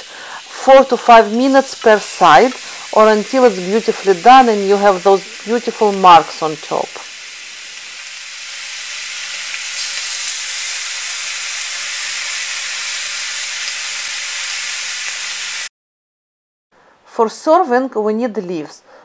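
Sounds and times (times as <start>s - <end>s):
meat sizzling on grill pan: 0.0s - 15.7s.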